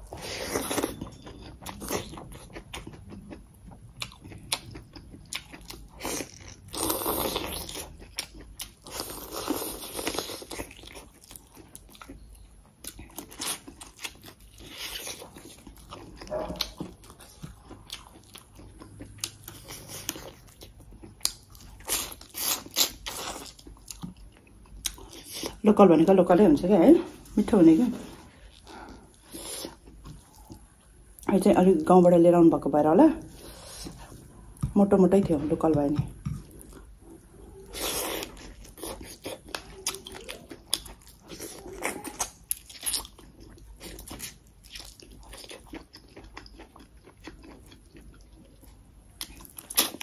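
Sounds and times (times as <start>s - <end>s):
chewing with clicks and crunches: 0.0s - 25.6s, 28.4s - 31.9s, 35.7s - 50.0s.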